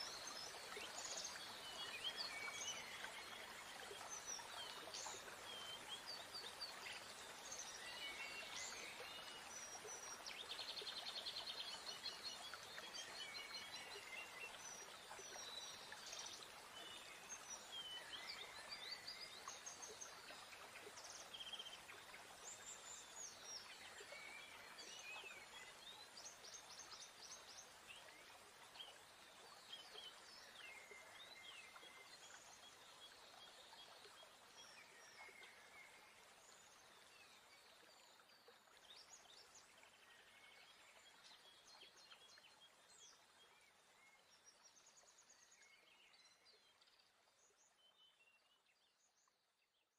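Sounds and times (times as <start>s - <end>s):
soft steady hiss: 0.0s - 49.8s.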